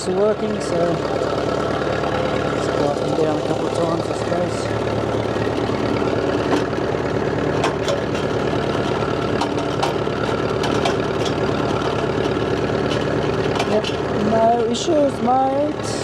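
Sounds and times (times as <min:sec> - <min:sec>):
hydraulic lift working: 0:00.0 - 0:14.8
diesel tractor engine idling: 0:00.0 - 0:16.0.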